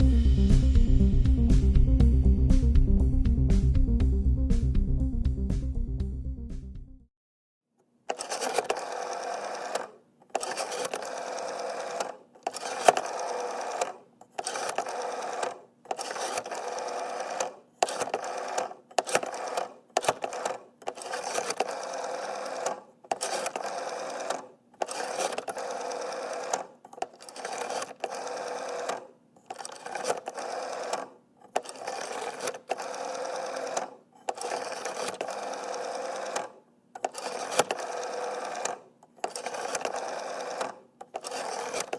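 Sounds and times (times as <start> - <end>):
rotary telephone dial whirring: 8.1 - 41.9.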